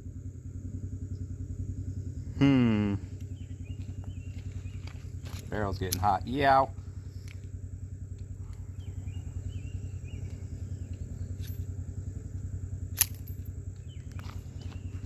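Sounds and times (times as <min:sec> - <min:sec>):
pulsing engine-like rumble: 0:00.0 - 0:15.0.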